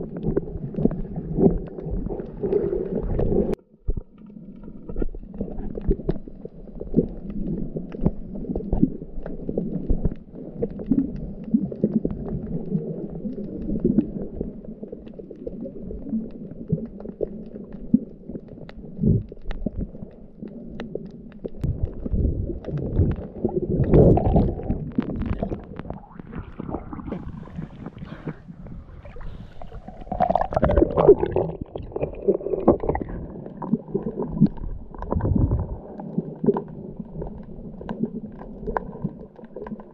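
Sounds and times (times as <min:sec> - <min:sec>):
muffled underwater sloshing: 0:00.0 - 0:39.9
water gurgling: 0:00.0 - 0:39.9.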